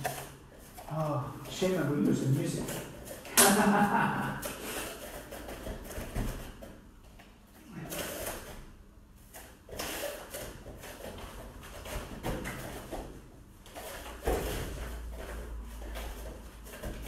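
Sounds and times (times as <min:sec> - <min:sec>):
bare feet on foam mats: 0:00.0 - 0:17.0.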